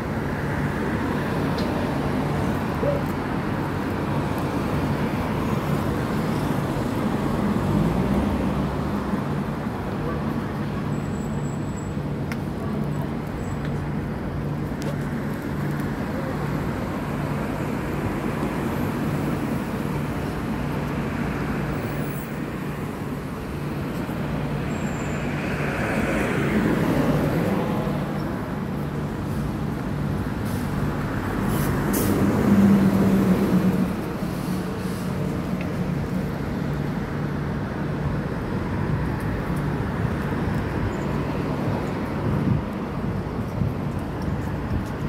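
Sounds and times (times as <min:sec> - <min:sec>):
cars passing: 0:00.0 - 0:45.0
low engine hum of traffic: 0:00.0 - 0:45.0.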